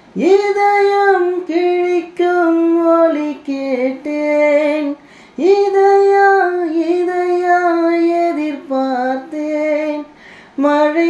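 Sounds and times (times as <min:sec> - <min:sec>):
person singing over speaker: 0:00.2 - 0:11.0.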